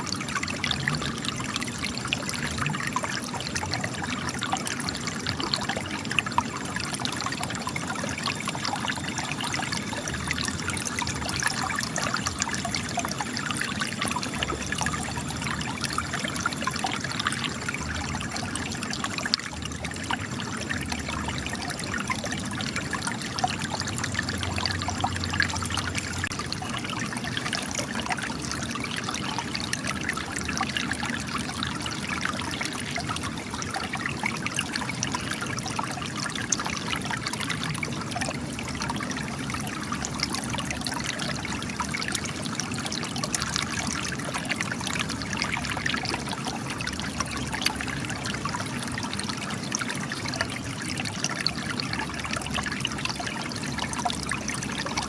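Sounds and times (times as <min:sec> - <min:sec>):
spring water trickling and splashing: 0:00.0 - 0:55.0.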